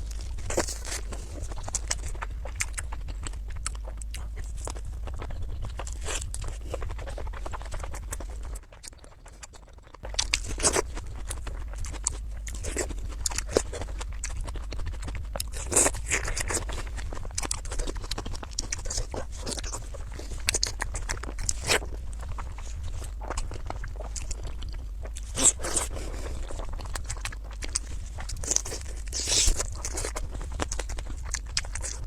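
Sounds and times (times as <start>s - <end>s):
person chewing and biting food: 0.0s - 32.0s.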